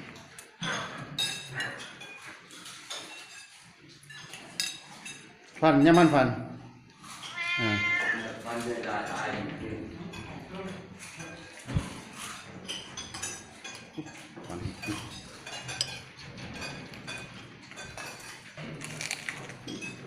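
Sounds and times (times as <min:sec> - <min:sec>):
cutlery clinking on plates: 0:00.0 - 0:06.3, 0:06.9 - 0:20.0.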